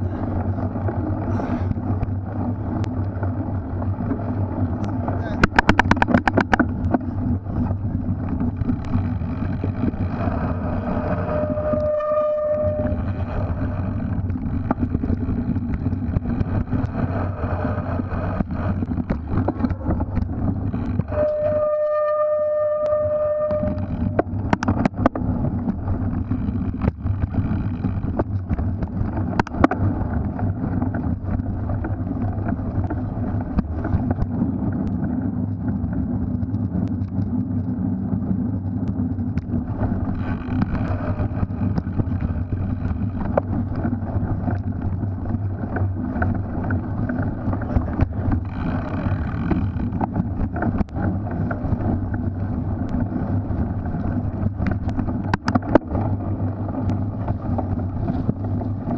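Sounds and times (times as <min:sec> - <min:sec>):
bike rattling over rough ground: 0:00.0 - 0:58.9
wind rushing over microphone: 0:00.0 - 0:58.9.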